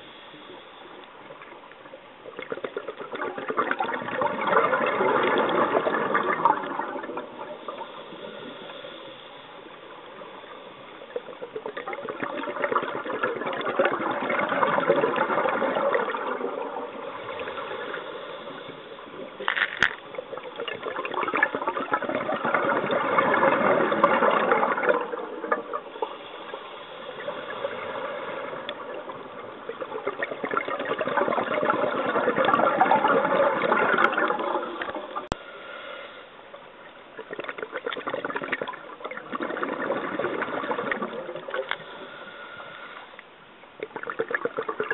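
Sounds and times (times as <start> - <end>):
regulator bubbles gurgling underwater: 0.0 - 35.8, 36.5 - 44.9.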